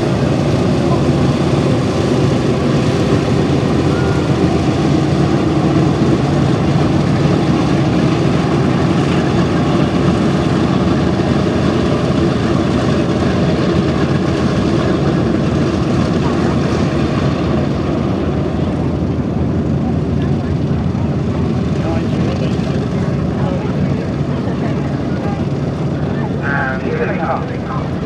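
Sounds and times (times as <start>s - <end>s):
propeller aircraft engines droning: 0.0s - 28.0s.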